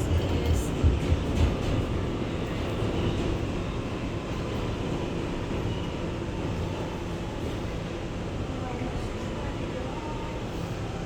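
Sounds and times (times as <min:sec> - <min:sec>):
subway car rumble and hum: 0:00.0 - 0:11.0.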